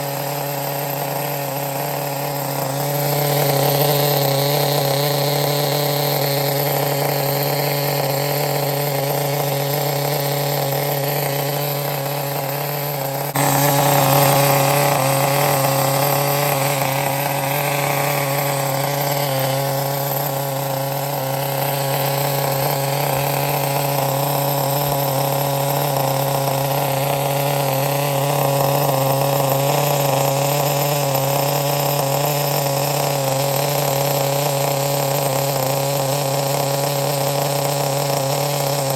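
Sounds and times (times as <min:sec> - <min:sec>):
model engine buzzing drone: 0:00.0 - 0:38.9.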